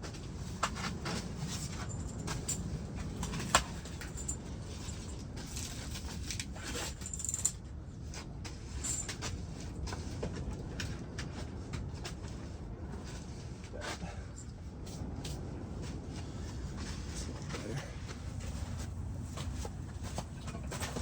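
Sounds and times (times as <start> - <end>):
low stove rumble: 0.0 - 21.0.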